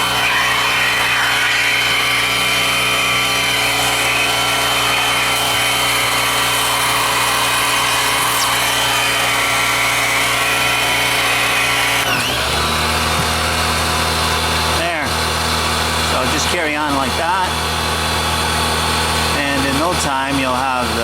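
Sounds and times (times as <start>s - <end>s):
pressure washer running: 0.0s - 21.0s.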